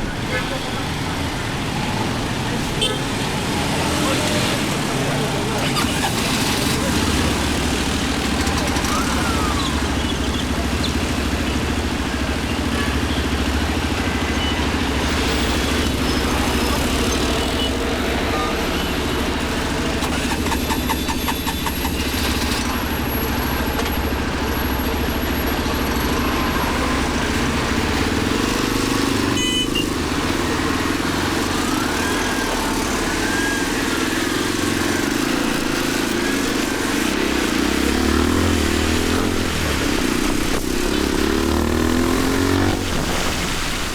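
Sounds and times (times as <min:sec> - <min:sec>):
traffic noise: 0:00.0 - 0:43.9
motorcycle engine running: 0:00.8 - 0:43.9.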